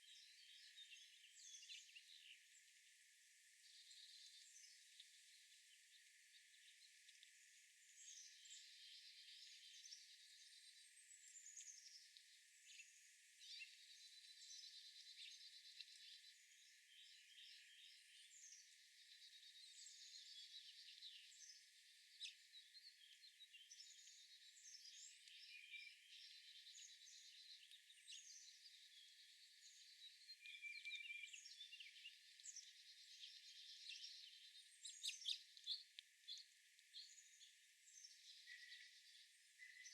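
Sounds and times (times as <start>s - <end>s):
small songbirds singing and chirping: 0.0s - 39.9s.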